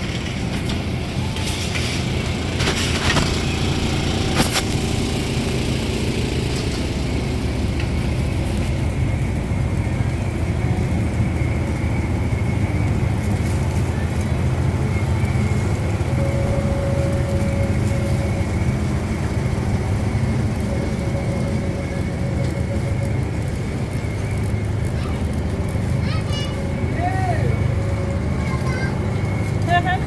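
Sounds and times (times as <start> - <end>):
faint high whine: 3.0 - 30.0
faint hum: 3.2 - 30.0.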